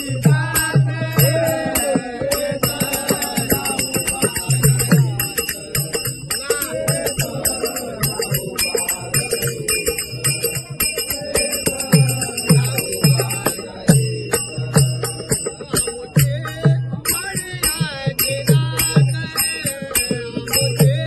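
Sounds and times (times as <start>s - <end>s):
group singing: 0.0s - 21.0s
hand cymbals clashing: 0.0s - 21.0s.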